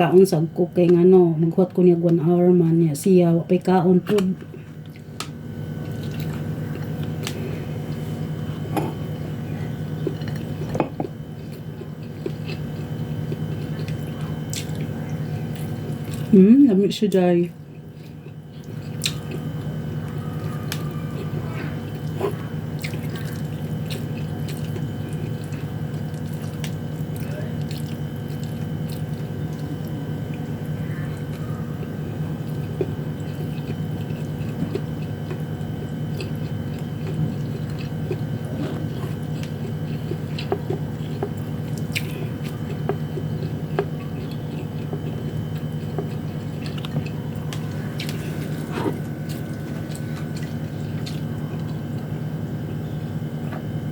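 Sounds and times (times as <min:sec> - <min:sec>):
person chewing: 0:04.4 - 0:16.3, 0:17.6 - 0:53.6.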